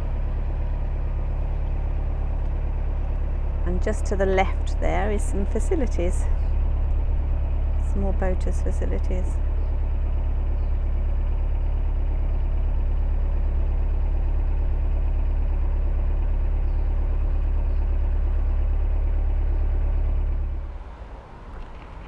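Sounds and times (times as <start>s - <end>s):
boat diesel engine droning: 0.0s - 22.0s.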